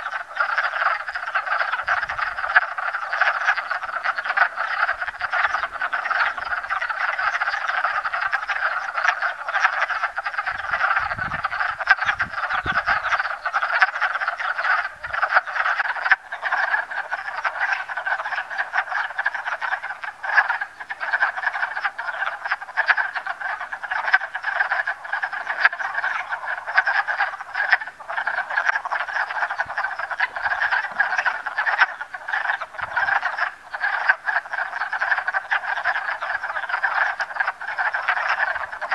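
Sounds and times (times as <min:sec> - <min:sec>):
frogs chorus: 0:00.0 - 0:38.9.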